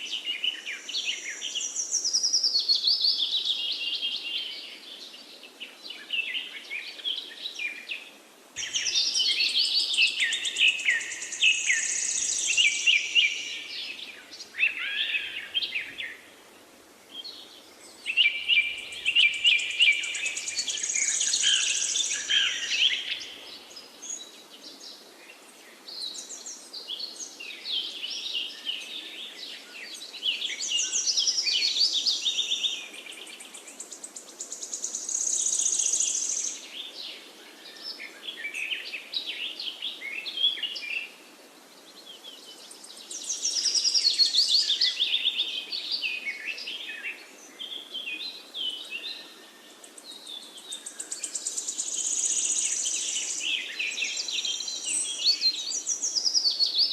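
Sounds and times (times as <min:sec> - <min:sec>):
faint steady hiss: 0:00.0 - 0:56.9
songbirds singing and calling: 0:00.0 - 0:56.9.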